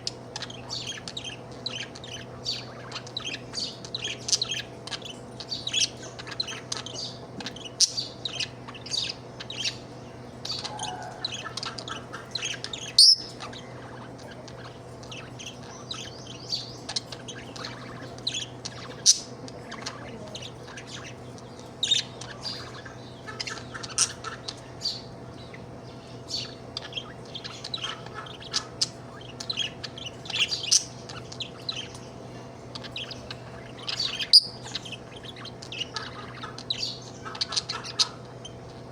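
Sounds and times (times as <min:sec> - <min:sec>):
budgerigar chirping and chattering: 0:00.0 - 0:38.9
faint steady hum: 0:00.0 - 0:38.9.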